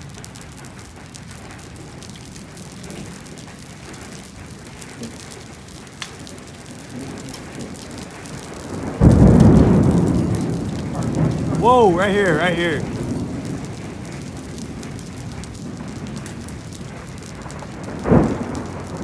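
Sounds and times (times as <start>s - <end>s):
hailstones ticking: 0.0s - 19.0s
steady rain: 0.0s - 19.0s
thunder crack and rumble: 0.0s - 19.0s.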